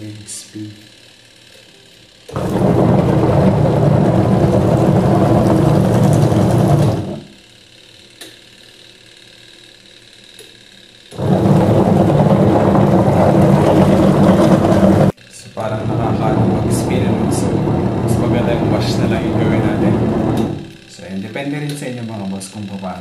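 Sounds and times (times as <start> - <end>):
washing machine motor whirring: 1.0 - 8.3, 8.9 - 23.0.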